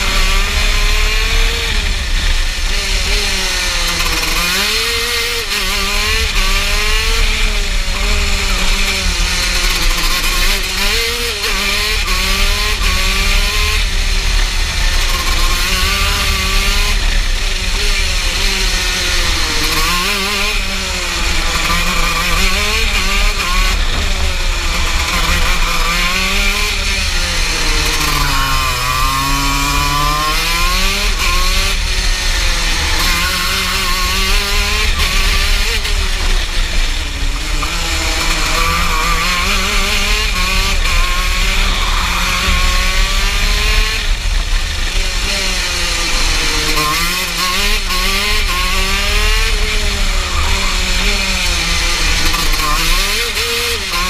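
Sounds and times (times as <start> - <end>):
two-stroke kart engine revving: 0.0 - 54.0.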